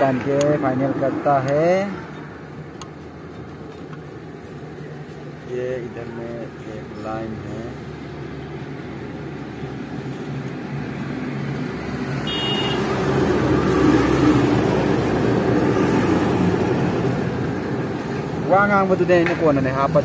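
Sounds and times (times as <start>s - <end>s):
road traffic engine noise: 0.0s - 20.0s.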